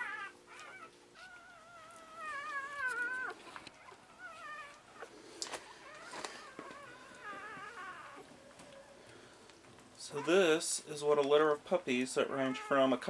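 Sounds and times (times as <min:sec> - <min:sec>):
puppies crying: 0:00.0 - 0:13.0.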